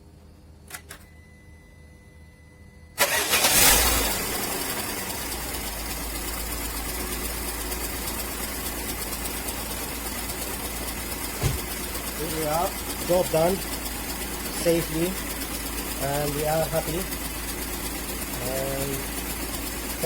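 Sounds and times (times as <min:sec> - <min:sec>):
car engine starting and idling: 0:03.0 - 0:20.0.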